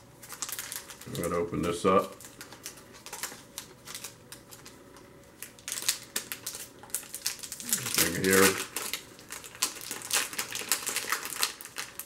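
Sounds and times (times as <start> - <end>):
plastic wrapping crackling: 0.2 - 12.0.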